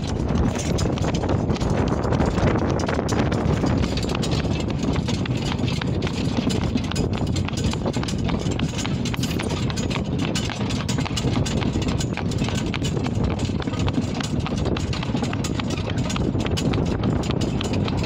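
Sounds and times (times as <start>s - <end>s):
cart rumbling and rattling: 0.0s - 18.0s
horse hooves clip-clopping on asphalt: 0.0s - 18.0s.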